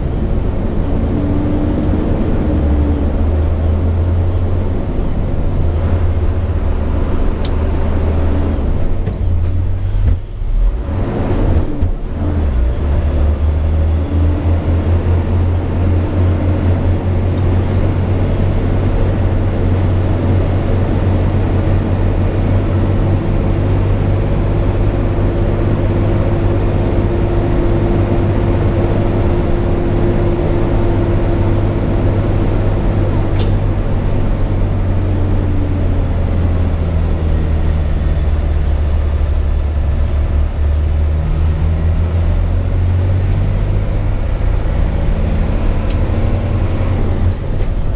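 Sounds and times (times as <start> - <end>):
truck diesel engine droning: 0.0 - 47.9.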